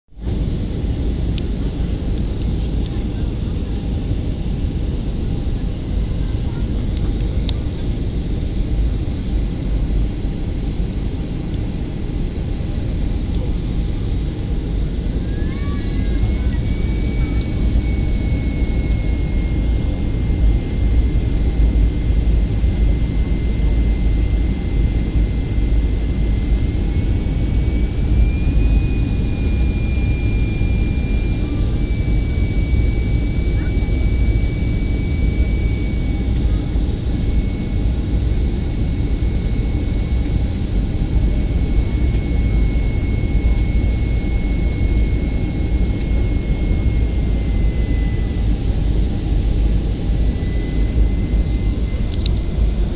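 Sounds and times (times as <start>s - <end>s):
jet engine low rumble: 0.1s - 52.9s
thin engine whine: 0.3s - 52.9s.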